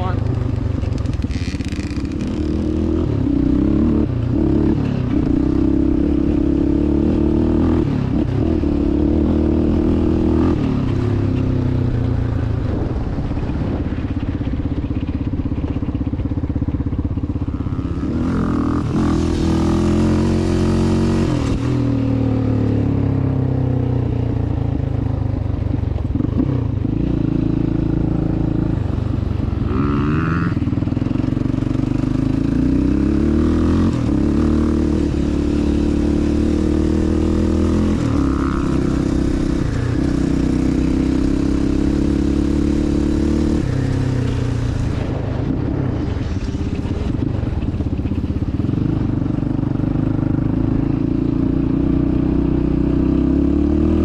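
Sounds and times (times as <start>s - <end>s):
quad bike engine revving: 0.0s - 12.0s, 17.0s - 23.8s, 26.1s - 45.8s, 46.7s - 54.0s.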